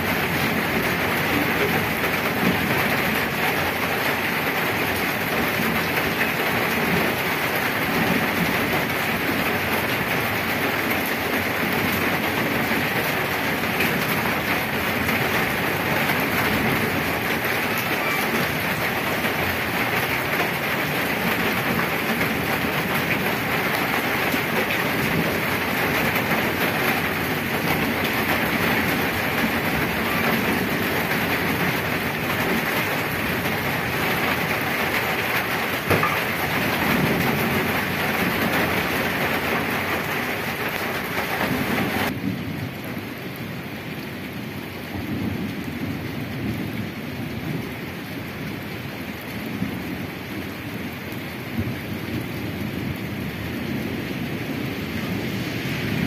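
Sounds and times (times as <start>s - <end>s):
heavy rain splashing in puddles: 0.0s - 56.0s.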